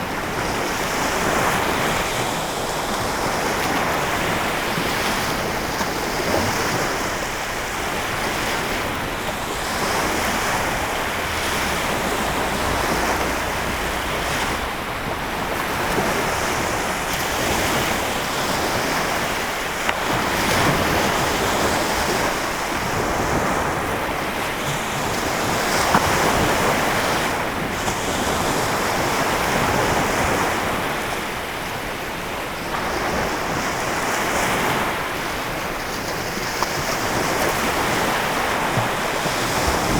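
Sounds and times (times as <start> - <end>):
lake waves washing ashore: 0.0 - 39.9
wind buffeting microphone: 0.0 - 39.9.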